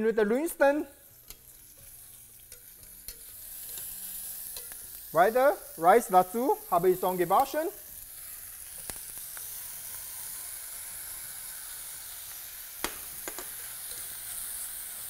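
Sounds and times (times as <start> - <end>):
food sizzling in hot oil: 0.2 - 15.0.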